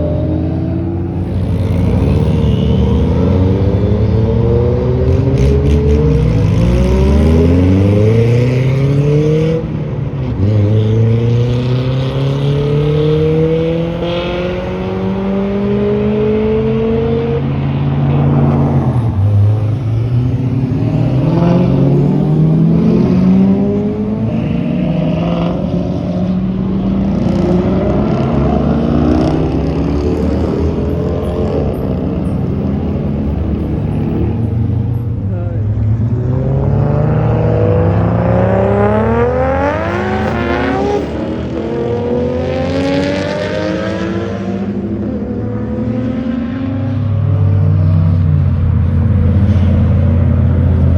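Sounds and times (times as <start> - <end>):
car engines accelerating hard: 0.0 - 50.9.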